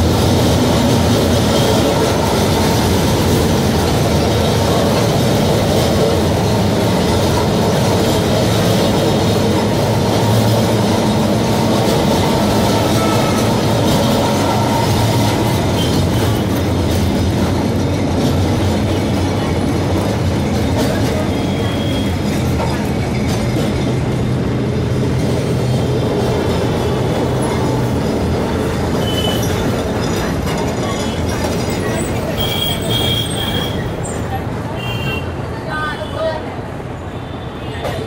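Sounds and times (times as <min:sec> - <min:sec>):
tram rolling on rails: 0:00.0 - 0:38.0.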